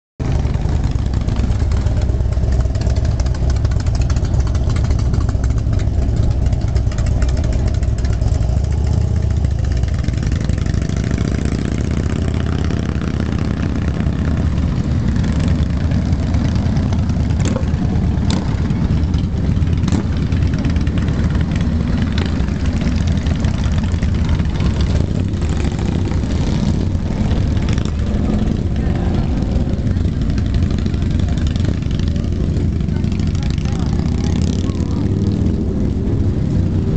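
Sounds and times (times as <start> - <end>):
motorcycle engines rumbling: 0.2 - 36.9.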